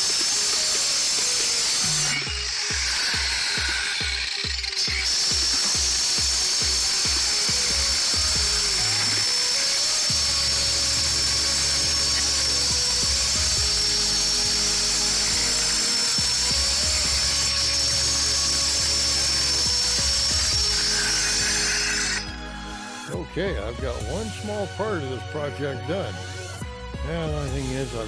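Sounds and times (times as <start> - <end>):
power saw cutting concrete: 0.0 - 23.1
background music: 0.0 - 28.0.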